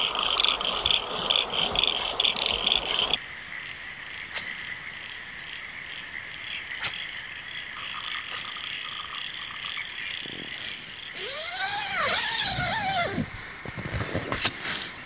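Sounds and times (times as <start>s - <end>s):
rapid pulsed frog calls: 0.0s - 14.0s.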